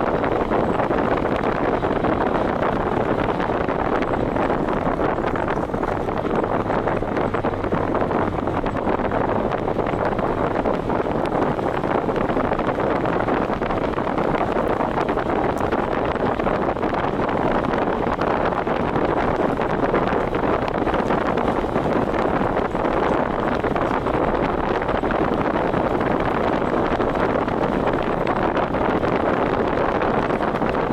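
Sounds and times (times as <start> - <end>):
road rush from driving vehicle: 0.0 - 30.9
wind buffeting microphone: 0.0 - 30.9.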